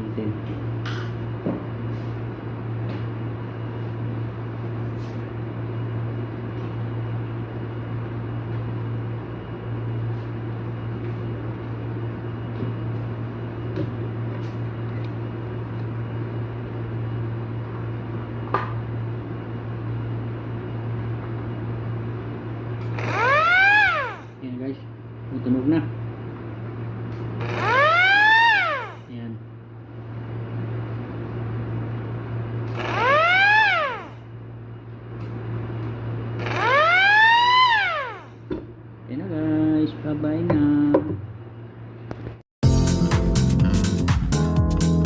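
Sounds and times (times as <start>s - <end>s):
background whir: 0.0s - 42.4s
low electrical hum: 0.0s - 42.4s.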